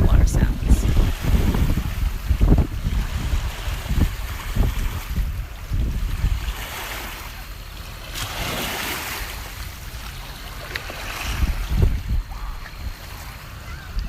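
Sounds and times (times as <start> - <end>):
lake waves lapping: 0.0 - 14.0
wind buffeting microphone: 0.0 - 14.0.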